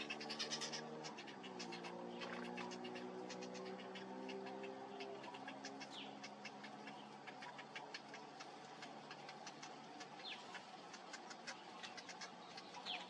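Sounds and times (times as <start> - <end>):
faint bird calls ticking: 0.0 - 13.0.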